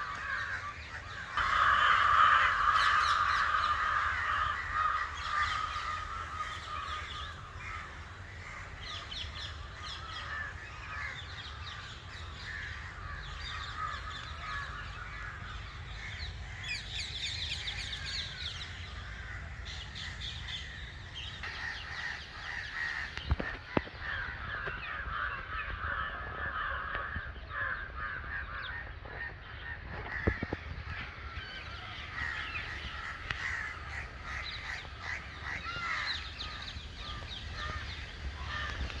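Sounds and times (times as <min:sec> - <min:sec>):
birds calling and chirping: 0:00.0 - 0:39.0
crows cawing: 0:00.0 - 0:39.0.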